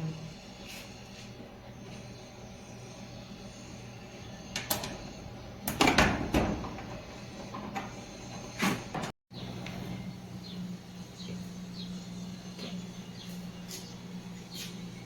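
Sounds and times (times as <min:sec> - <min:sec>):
clothes dryer humming: 0:00.0 - 0:15.0.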